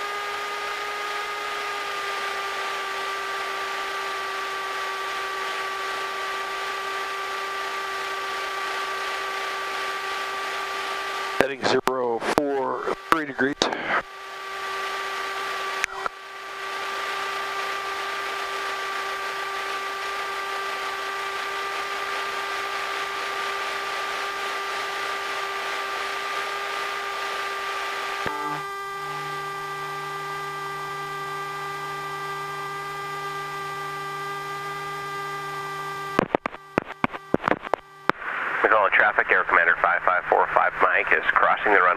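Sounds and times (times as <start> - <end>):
lower hum: 0.0 - 41.9
electrical hum: 0.1 - 41.9.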